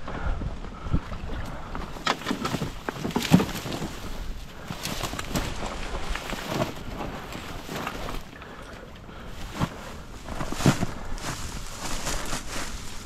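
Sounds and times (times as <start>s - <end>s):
dry reeds rustling and crackling: 1.1s - 13.0s.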